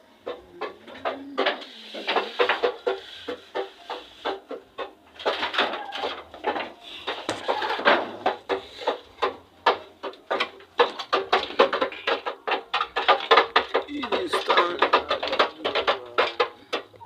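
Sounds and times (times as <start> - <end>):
sharp clicks and knocks: 0.2 - 17.0.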